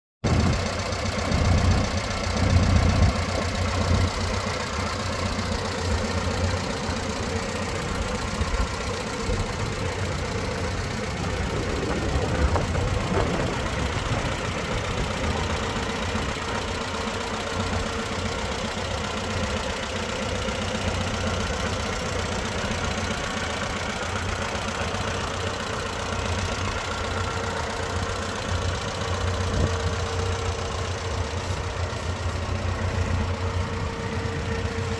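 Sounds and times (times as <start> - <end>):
tractor engine idling: 0.2 - 34.9.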